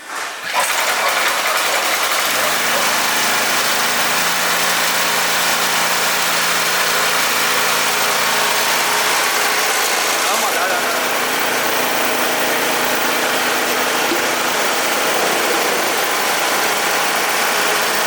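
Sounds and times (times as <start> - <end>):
rice milling machine whirring: 0.0 - 18.0.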